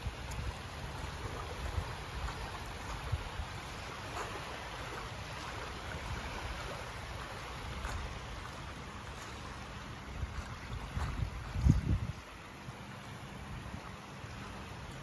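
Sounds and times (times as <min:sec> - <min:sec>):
wind rumble on microphone: 0:00.0 - 0:12.8
small waves lapping on sand: 0:00.0 - 0:15.0.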